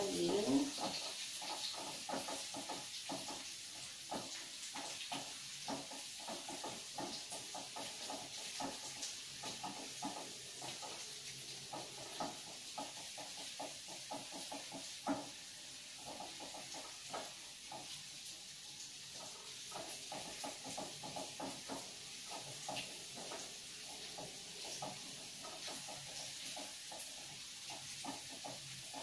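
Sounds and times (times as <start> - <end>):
spatula knocking on wok: 0.0 - 18.3, 19.1 - 29.0
shallots sizzling in hot oil: 0.0 - 29.0
spatula scraping wok: 0.0 - 29.0.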